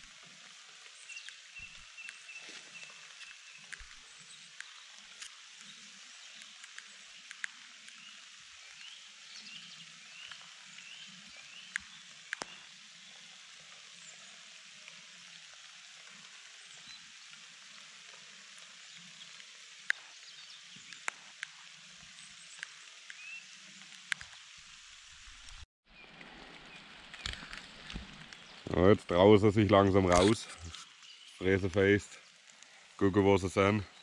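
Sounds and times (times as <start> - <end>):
rain hissing: 0.0 - 34.0.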